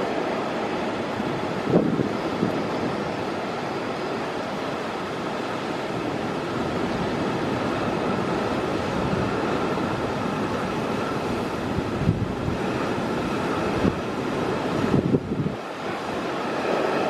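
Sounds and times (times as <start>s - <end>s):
heavy surf: 0.0s - 17.0s
strong wind buffeting microphone: 0.0s - 17.0s.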